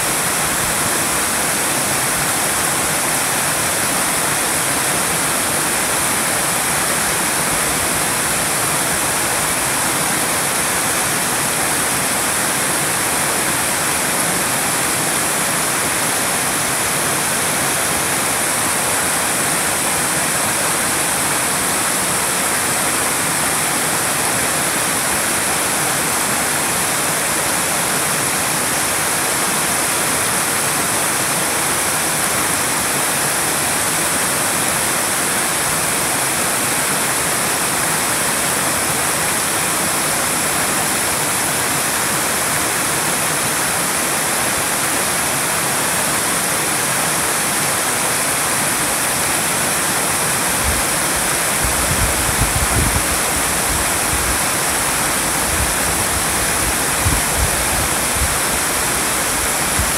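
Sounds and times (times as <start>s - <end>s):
waterfall pouring and splashing: 0.0s - 59.9s.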